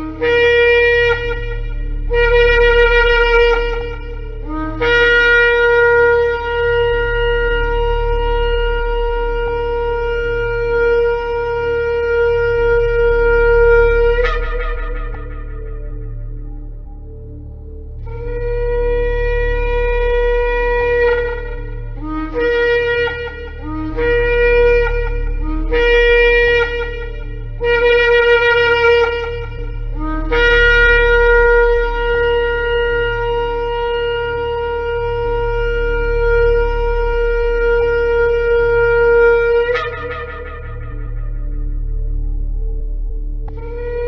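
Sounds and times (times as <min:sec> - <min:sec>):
shofar blasts: 0:00.0 - 0:44.0.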